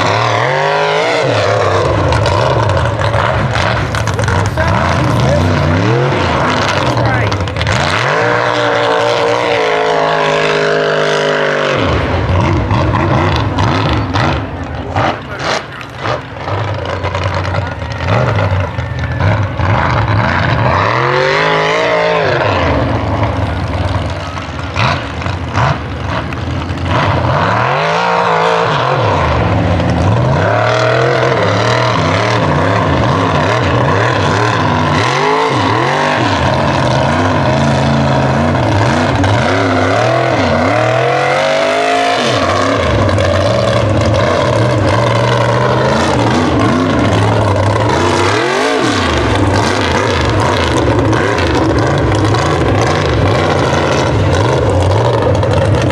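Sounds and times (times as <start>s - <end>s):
truck engine revving hard: 0.0s - 55.9s.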